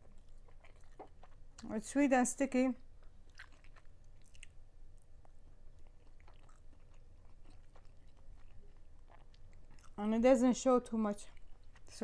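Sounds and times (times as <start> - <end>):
chewing chicken: 0.0 - 1.9, 2.8 - 12.0.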